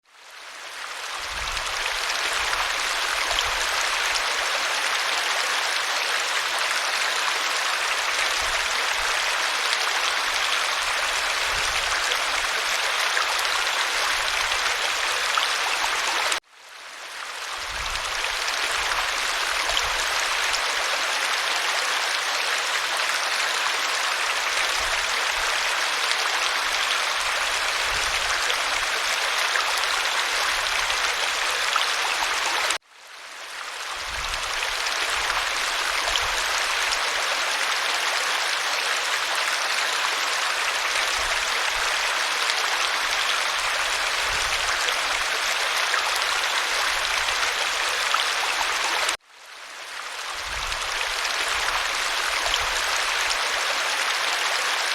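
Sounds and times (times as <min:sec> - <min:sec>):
waterfall rushing: 0:01.2 - 0:16.4, 0:18.0 - 0:32.8, 0:34.4 - 0:49.2.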